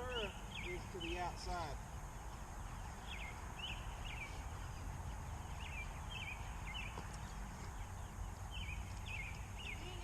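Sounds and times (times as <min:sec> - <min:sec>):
bird chirping: 0:00.0 - 0:10.0
low background noise: 0:00.0 - 0:10.0.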